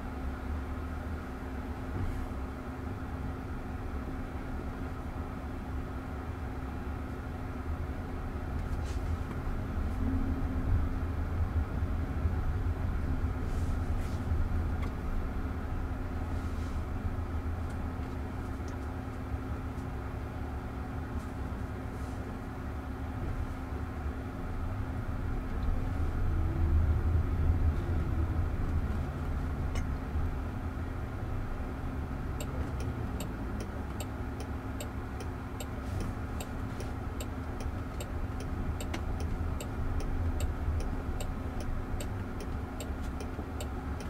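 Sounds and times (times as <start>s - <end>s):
road and tyre rumble: 0.0s - 44.0s.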